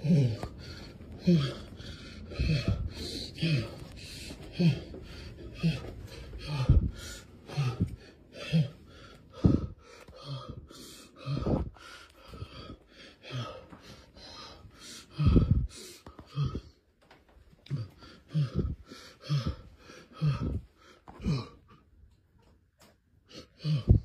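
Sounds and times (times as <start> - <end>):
man breathing hard in gasps: 0.0 - 16.8, 17.7 - 21.8.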